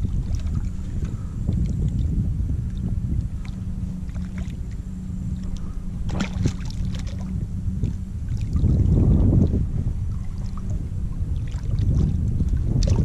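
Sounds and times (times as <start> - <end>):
water lapping: 0.0 - 13.0
wind rumbling on microphone: 0.0 - 13.0.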